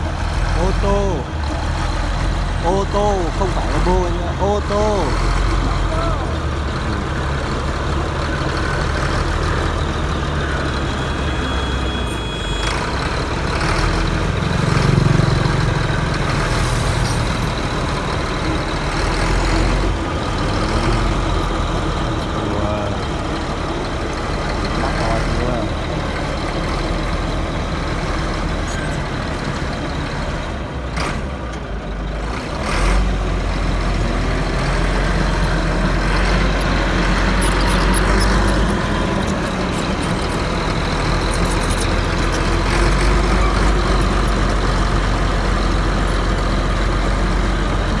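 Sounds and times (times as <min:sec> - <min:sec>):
bulldozer diesel engine rumbling: 0:00.0 - 0:48.0.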